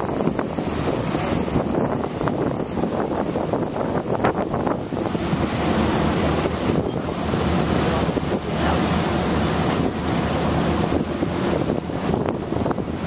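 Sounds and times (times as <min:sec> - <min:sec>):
rush of churned water: 0:00.0 - 0:13.0
wind buffeting microphone: 0:00.0 - 0:13.0.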